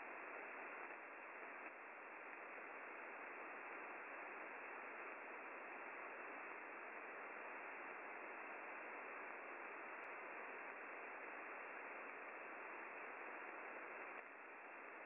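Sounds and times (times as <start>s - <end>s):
shortwave radio static hiss: 0.0s - 15.0s.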